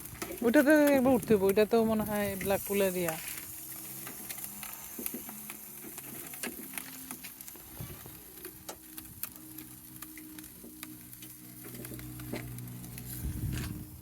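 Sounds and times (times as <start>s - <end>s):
food sizzling on a grill: 0.0s - 14.0s
sharp crackles and pops: 0.0s - 14.0s.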